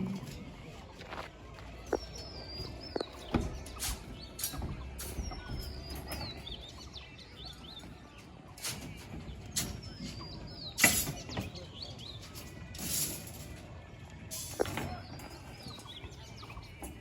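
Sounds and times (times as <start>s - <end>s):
small birds twittering: 0.0s - 17.0s.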